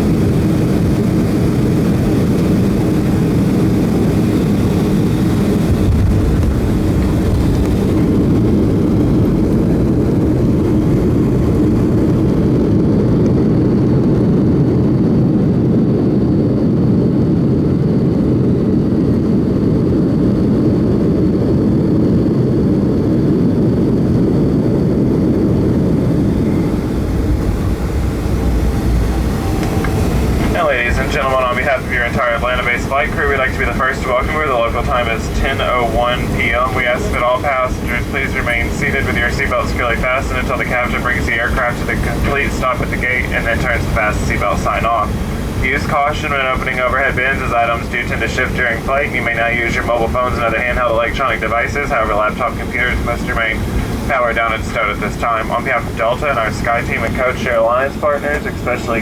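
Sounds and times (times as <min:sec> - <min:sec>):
jet cabin engine rumble: 0:00.0 - 0:59.0.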